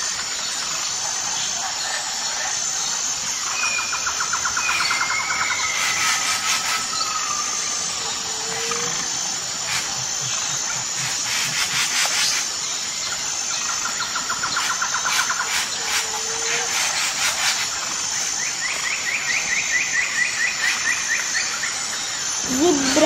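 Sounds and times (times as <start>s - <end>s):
high insect buzz: 2.8s - 23.0s.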